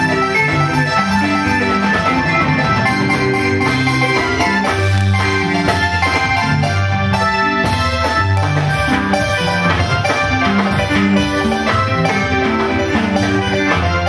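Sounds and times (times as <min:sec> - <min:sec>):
music with drum beat and bass: 0:00.0 - 0:14.0.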